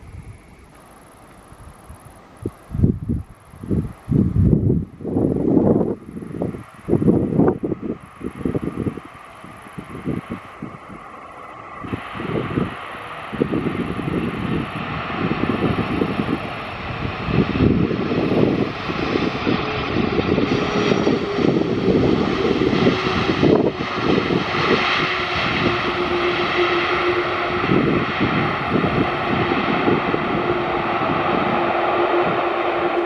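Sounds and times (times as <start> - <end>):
jet engine whine: 0.0 - 33.0
jet engines rumbling: 0.0 - 33.0.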